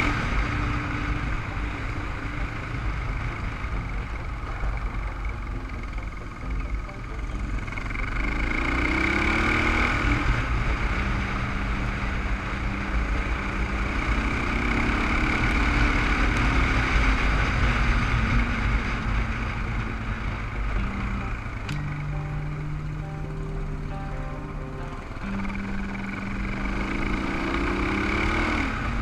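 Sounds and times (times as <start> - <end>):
dirt bike engine running: 0.0 - 29.0.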